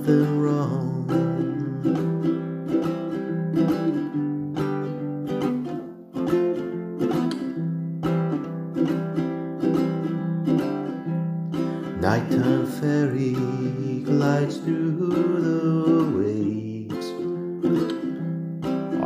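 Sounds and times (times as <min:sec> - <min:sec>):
ukulele strumming: 0:00.0 - 0:19.0.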